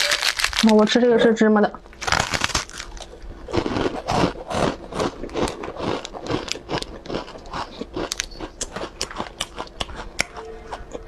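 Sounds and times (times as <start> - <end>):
crisp wafer being chewed: 0.0 - 0.9, 2.0 - 11.0.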